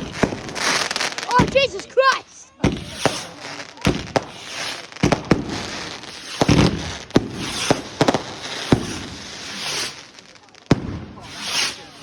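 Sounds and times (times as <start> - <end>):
firework bangs: 0.0 - 12.0
firework crackling and hissing: 0.0 - 12.0.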